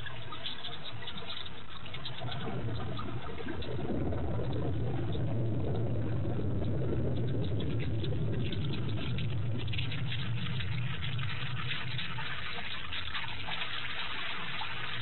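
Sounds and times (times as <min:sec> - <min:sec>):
low hum: 0:00.0 - 0:15.0
heavy rain falling: 0:00.2 - 0:15.0.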